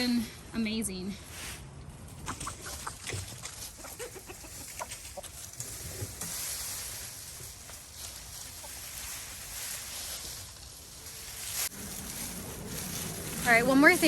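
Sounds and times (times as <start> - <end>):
chickens clucking: 2.1 - 13.4.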